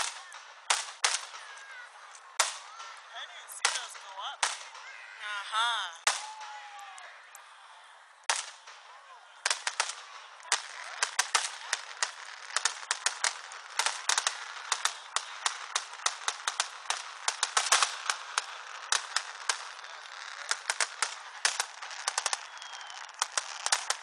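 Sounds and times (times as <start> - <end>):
firework bang: 0.0 - 5.1, 6.0 - 6.7, 8.2 - 24.0
fireworks crackling and popping: 0.0 - 24.0.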